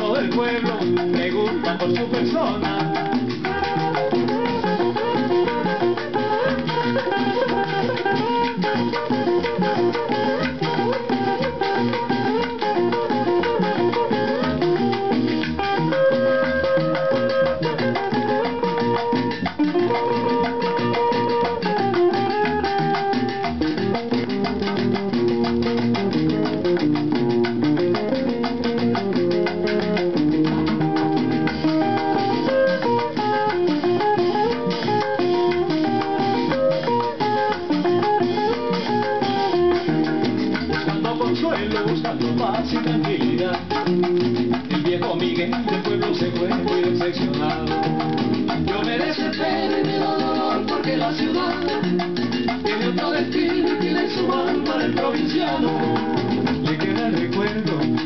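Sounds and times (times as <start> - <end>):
bass and percussion: 0.0 - 58.0
plucked guitar melody: 0.0 - 58.0.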